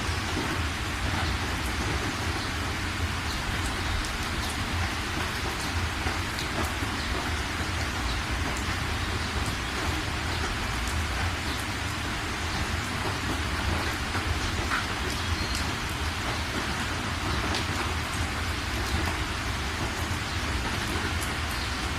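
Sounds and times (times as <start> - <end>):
rain falling: 0.0 - 21.9
raindrops pattering on surfaces: 0.0 - 21.9.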